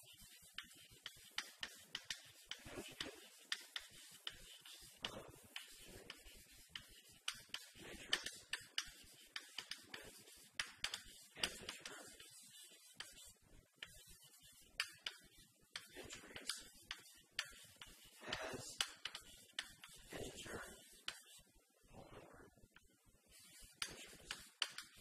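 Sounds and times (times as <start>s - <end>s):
chalk tapping on chalkboard: 0.0s - 21.5s, 22.1s - 25.0s.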